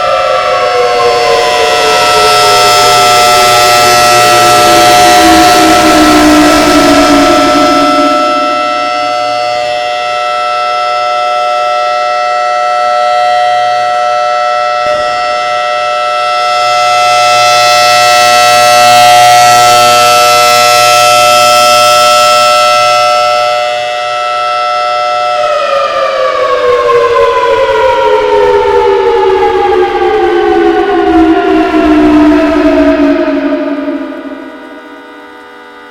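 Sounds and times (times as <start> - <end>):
warning siren steady tone: 0.0 - 35.9.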